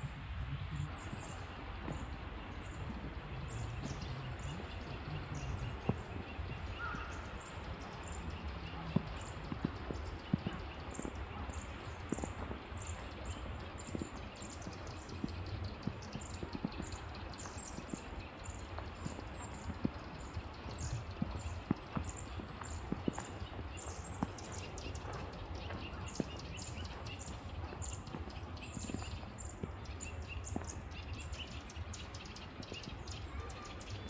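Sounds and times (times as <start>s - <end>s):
footsteps crunching in snow: 0.0s - 31.8s.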